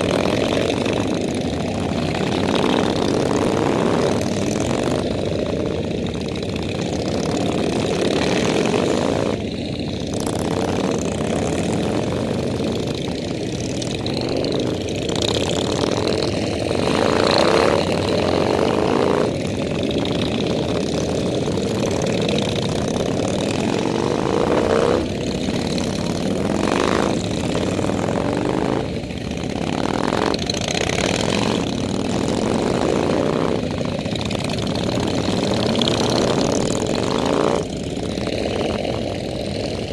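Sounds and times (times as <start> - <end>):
motorcycle engines accelerating: 0.0 - 39.9.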